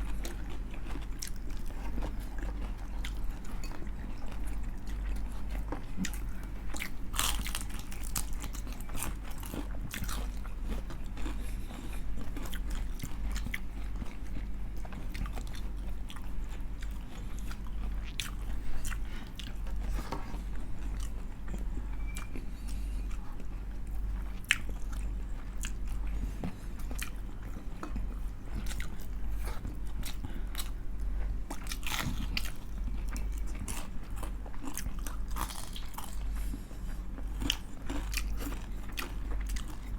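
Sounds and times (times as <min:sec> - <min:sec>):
crunching and chewing fried chicken: 0:00.0 - 0:39.9
steady low hum: 0:00.0 - 0:39.9.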